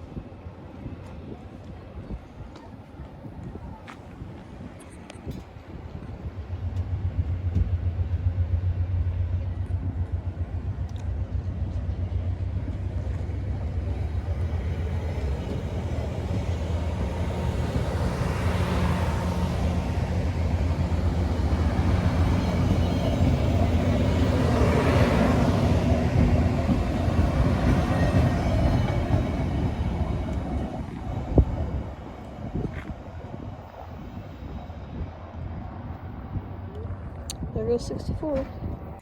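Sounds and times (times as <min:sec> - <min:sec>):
diesel train engine drone: 0:00.0 - 0:39.0
train wheel and rail noise: 0:00.0 - 0:39.0.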